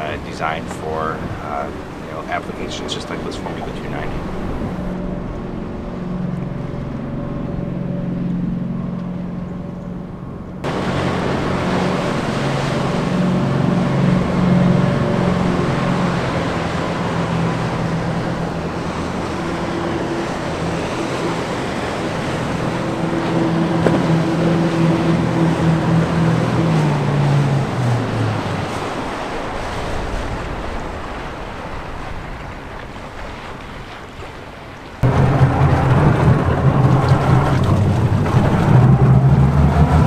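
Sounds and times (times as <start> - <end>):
wind and water rushing: 0.0 - 9.4, 10.2 - 40.0
boat engines droning: 0.0 - 40.0.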